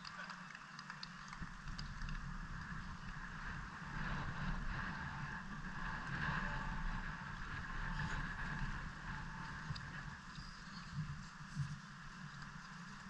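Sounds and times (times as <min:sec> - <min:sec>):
wind buffeting microphone: 0:01.1 - 0:13.0.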